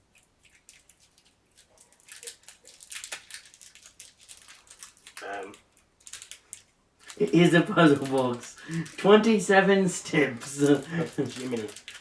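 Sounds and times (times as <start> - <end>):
packaging crinkling: 0.1 - 12.0.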